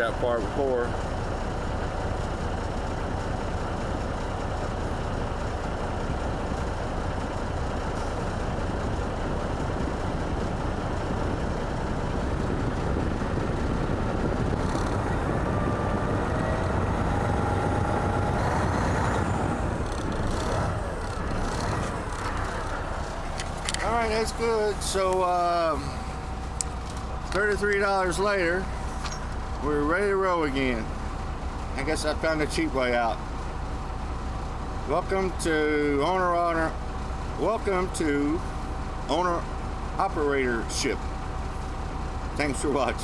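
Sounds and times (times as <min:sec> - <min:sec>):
diesel truck engine idling: 0:00.0 - 0:43.0.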